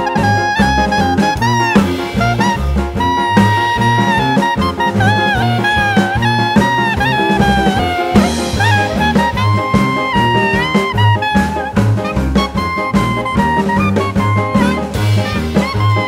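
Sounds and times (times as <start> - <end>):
jazzy swing tune with brass lead: 0.0 - 16.0.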